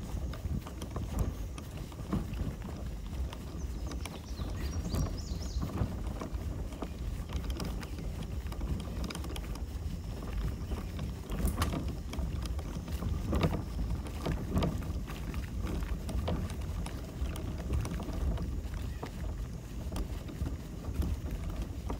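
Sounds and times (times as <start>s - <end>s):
wind on microphone: 0.0s - 21.9s.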